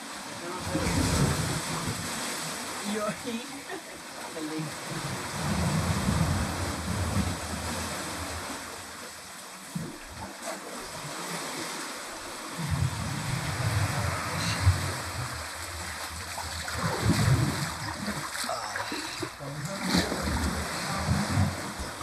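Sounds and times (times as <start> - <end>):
surf rushing into a cave: 0.0 - 22.0.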